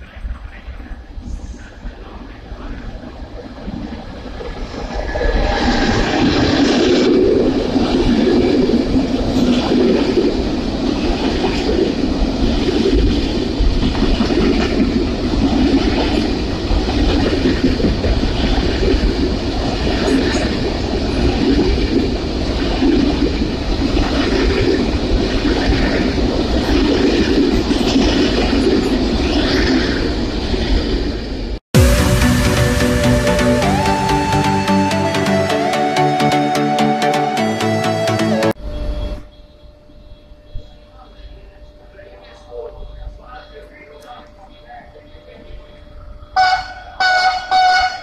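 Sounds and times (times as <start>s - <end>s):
freight train rumbling past: 0.0s - 38.5s.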